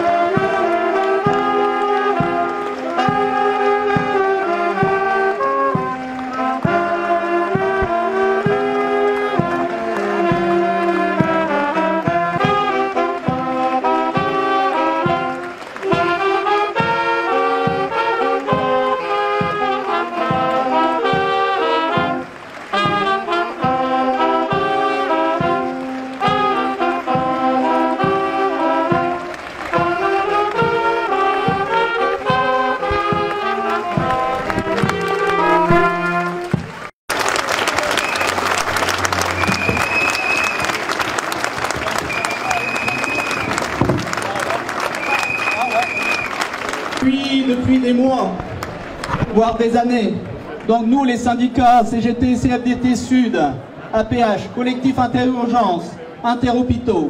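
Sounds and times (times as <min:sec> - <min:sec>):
brass horns playing a tune: 0:00.0 - 0:47.9.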